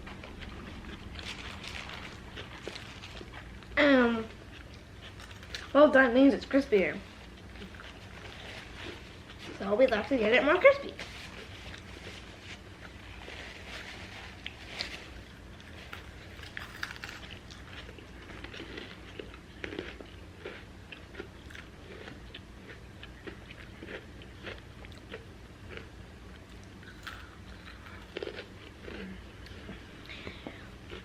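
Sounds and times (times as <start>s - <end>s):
chewing crispy fries: 0.0s - 31.0s.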